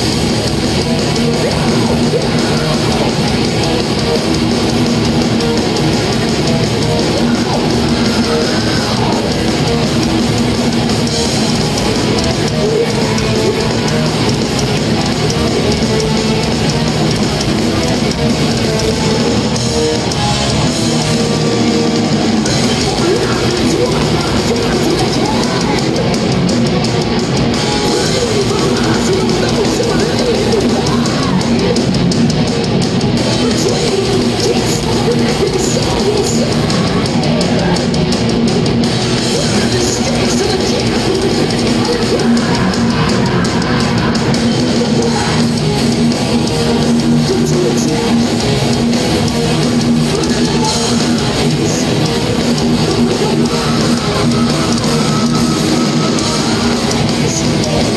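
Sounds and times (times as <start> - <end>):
distorted electric guitars: 0.0 - 57.9
drum kit: 0.0 - 57.9
live heavy metal band: 0.0 - 57.9.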